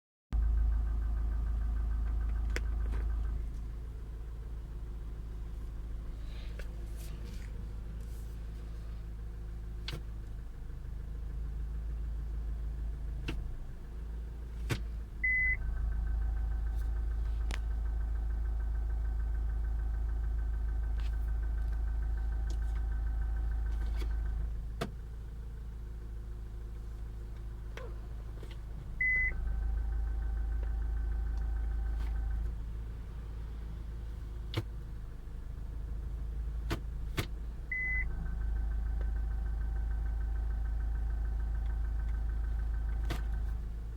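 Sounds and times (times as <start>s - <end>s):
car engine idling: 0.3s - 43.9s.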